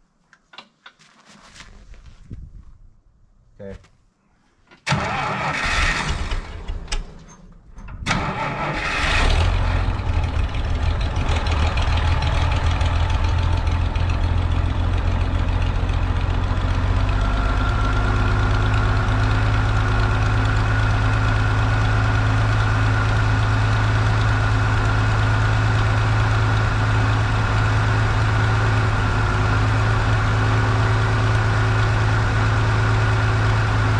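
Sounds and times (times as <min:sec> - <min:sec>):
tractor engine cranking and running: 0:04.7 - 0:33.9.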